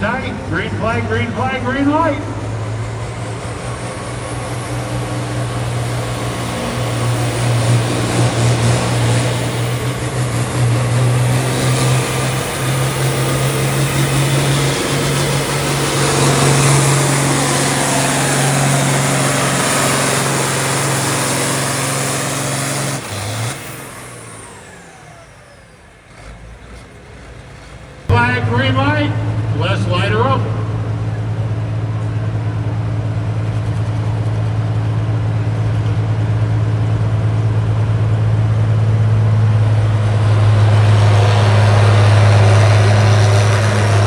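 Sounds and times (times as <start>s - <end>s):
tractor engine at full throttle: 0.0s - 44.0s.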